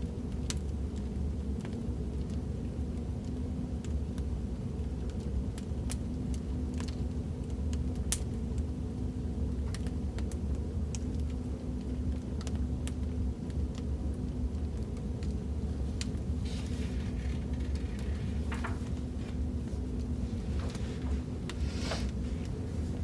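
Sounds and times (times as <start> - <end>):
fire crackles and pops: 0.0 - 23.0
fire rumbling: 0.0 - 23.0.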